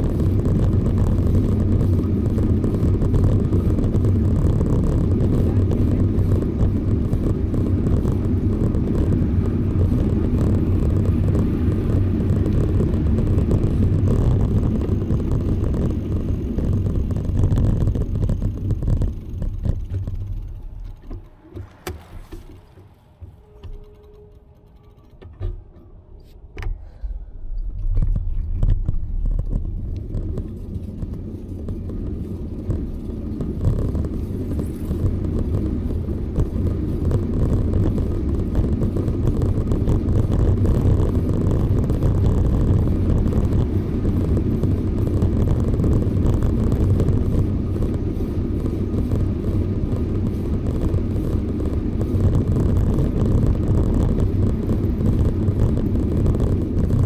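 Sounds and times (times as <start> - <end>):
bicycle rolling noise: 0.0 - 57.0
wind rumble: 0.0 - 57.0.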